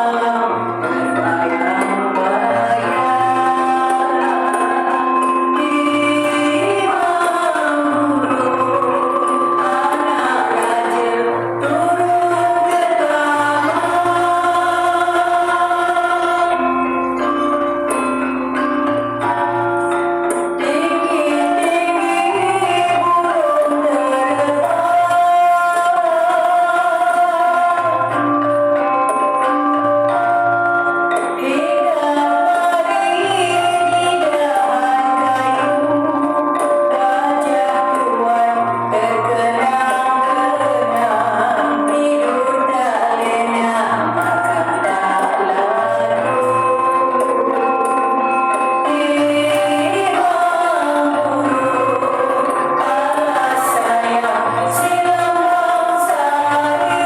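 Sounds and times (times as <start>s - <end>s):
gamelan music: 0.0s - 57.0s.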